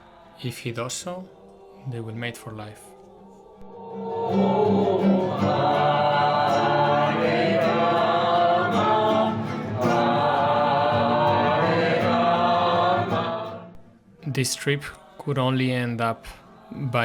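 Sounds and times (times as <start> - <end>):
group of voices chanting: 1.2 - 17.0.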